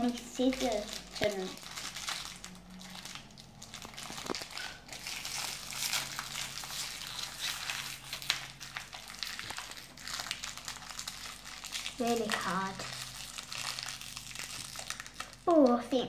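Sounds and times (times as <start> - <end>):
wrapper crinkling: 0.0 - 15.5.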